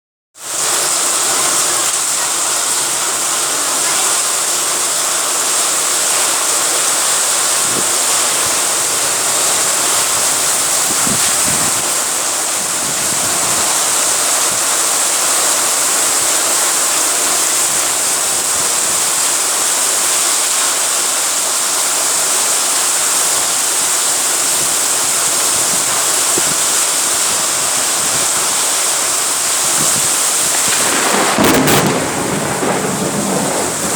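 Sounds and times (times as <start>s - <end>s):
heavy rain pouring: 0.4s - 33.9s.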